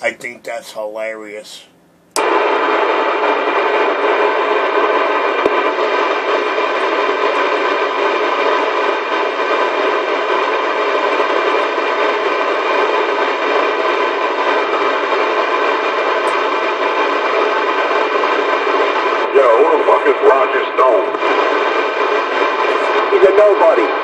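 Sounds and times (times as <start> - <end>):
static-like hiss: 0.0 - 24.0.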